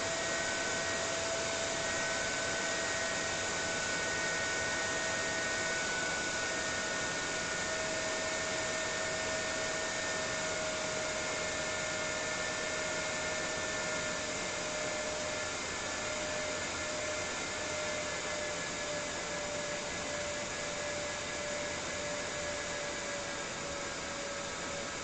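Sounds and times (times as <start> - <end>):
ventilation fan running: 0.0 - 25.0.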